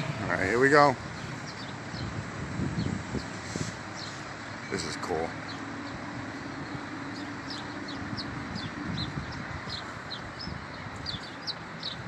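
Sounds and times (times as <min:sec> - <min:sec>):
city background noise: 0:00.0 - 0:12.0
small birds chirping: 0:00.0 - 0:12.0.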